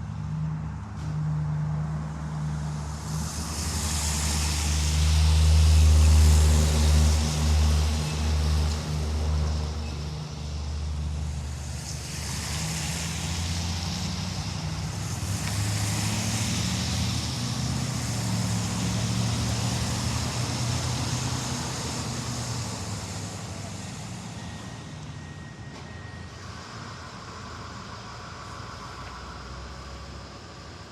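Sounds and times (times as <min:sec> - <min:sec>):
heavy vehicle engine running: 0:00.0 - 0:30.9
tyre and road noise: 0:00.0 - 0:30.9.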